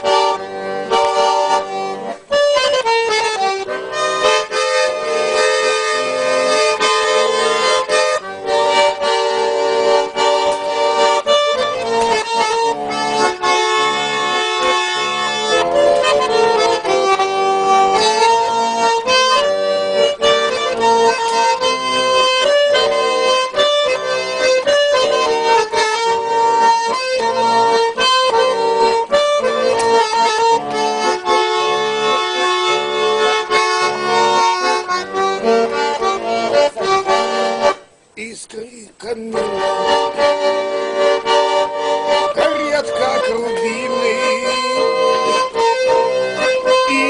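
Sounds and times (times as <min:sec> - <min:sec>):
button accordion melody: 0:00.0 - 0:47.0.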